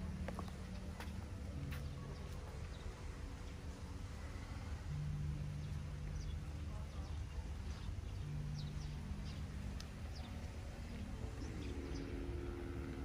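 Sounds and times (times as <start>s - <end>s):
birds chirping: 0.0s - 13.0s
low hum: 0.0s - 13.0s
steady low rumble: 0.0s - 13.0s.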